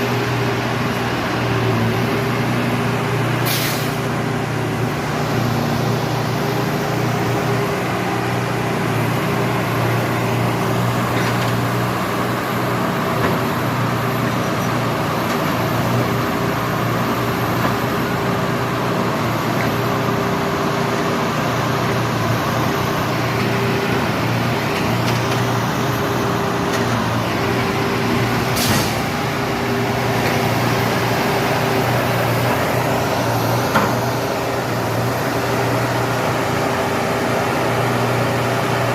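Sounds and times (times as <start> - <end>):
machine engines running: 0.0 - 38.9.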